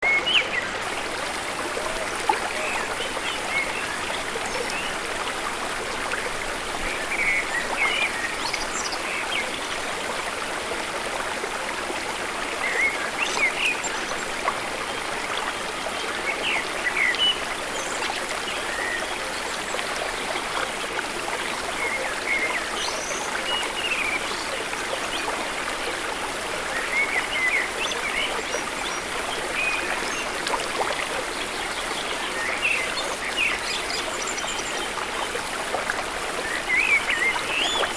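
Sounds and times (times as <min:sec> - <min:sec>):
waterfall and stream rushing: 0:00.0 - 0:37.9.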